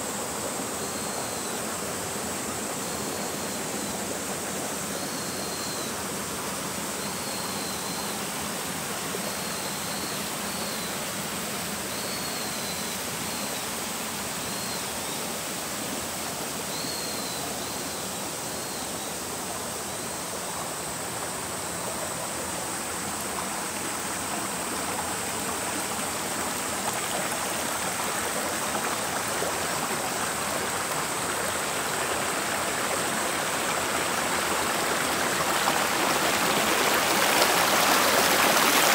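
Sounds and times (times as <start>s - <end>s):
flowing stream: 0.0s - 38.9s.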